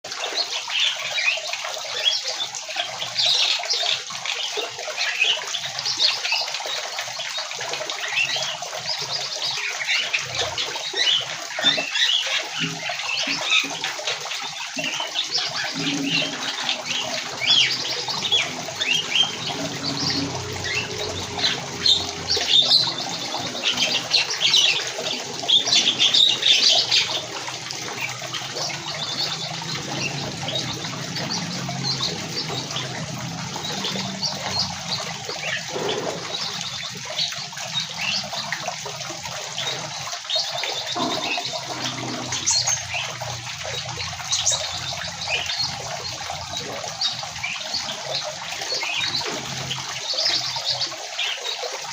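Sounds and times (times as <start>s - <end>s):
birds chirping: 0.4s - 51.7s.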